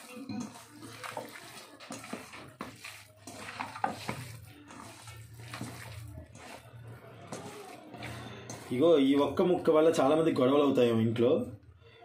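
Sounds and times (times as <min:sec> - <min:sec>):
wet squelching of marinade: 0:00.0 - 0:10.0.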